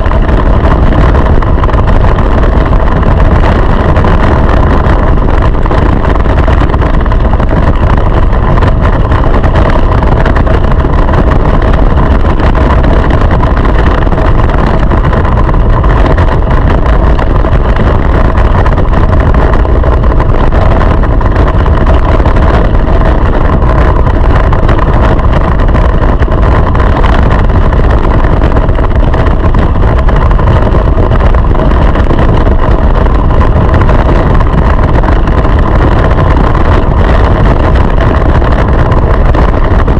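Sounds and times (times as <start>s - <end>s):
go-kart engine running: 0.0s - 39.9s
wind rumble on microphone: 0.0s - 39.9s.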